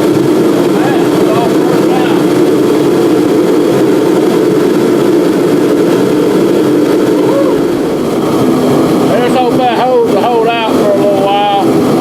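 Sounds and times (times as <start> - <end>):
heater blower rushing: 0.0 - 12.0.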